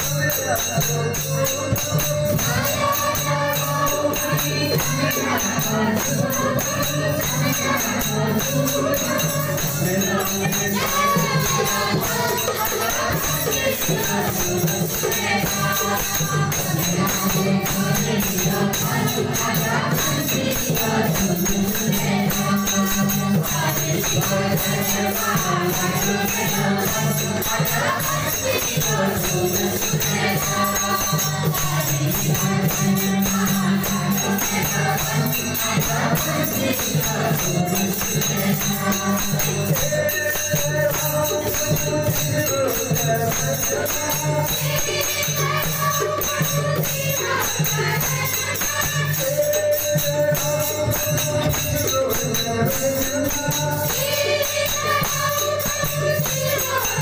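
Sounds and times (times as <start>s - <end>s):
group singing along: 0.0s - 57.0s
steady percussion rhythm: 0.0s - 57.0s.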